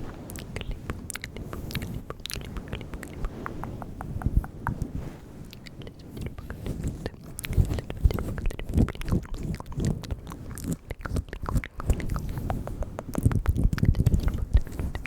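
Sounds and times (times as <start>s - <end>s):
wet mouth clicks and lip smacks: 0.3s - 15.0s.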